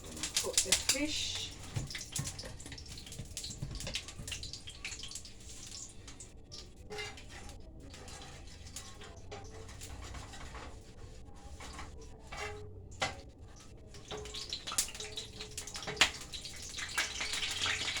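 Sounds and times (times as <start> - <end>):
fish frying in oil with pops: 0.0 - 18.0.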